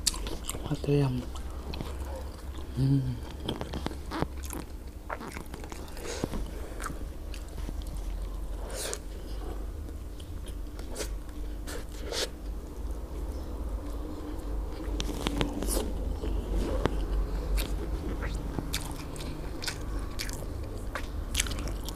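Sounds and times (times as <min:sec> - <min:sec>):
person chewing food: 0:00.0 - 0:21.9.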